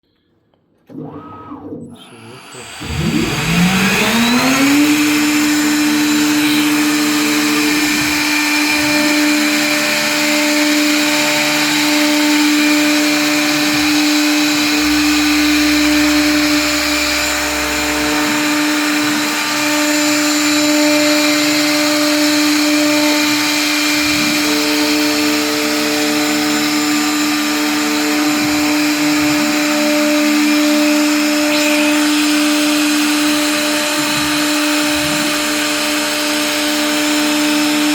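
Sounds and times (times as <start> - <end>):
drive motors humming: 0.8 - 35.7
router cutting panel: 0.8 - 37.9
router spindle whine: 0.9 - 37.9.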